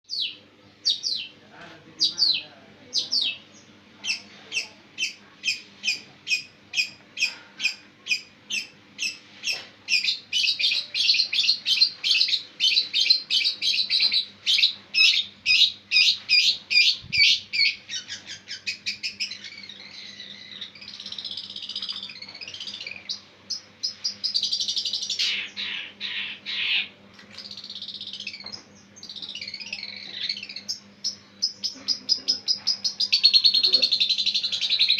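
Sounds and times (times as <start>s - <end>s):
bird chattering warble: 2.0s - 34.9s
shrike calling: 2.0s - 34.9s.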